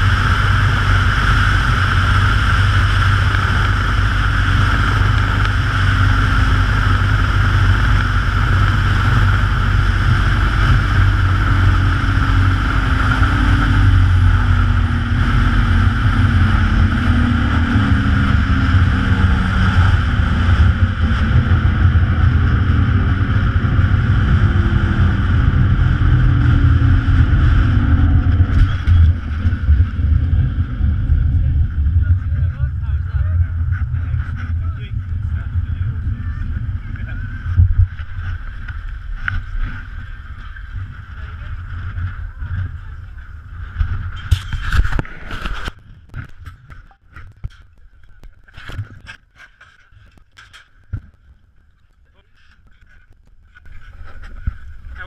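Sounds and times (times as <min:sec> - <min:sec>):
wind buffeting microphone: 0:00.0 - 0:49.2
low hum: 0:00.0 - 0:55.0.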